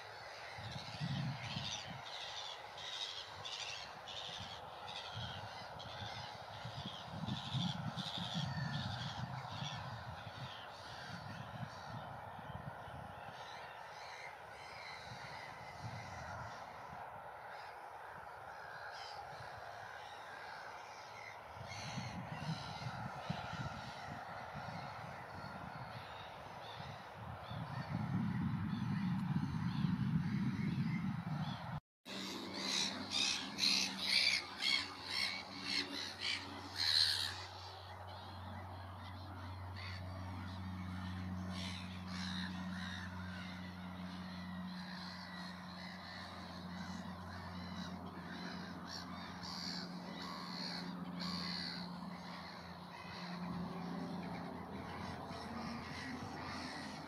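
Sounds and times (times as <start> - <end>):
faint bird calls: 0.0 - 57.0
steady low hum: 0.1 - 57.0.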